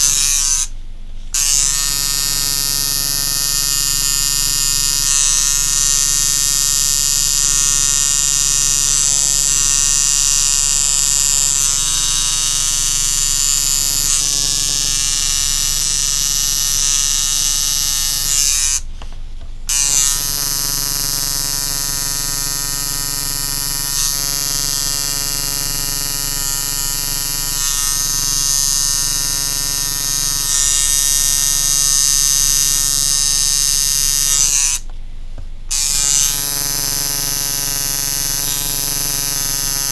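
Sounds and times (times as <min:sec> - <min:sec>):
tattoo machine buzzing: 0:00.0 - 0:19.0, 0:19.6 - 0:34.9, 0:35.6 - 0:39.9.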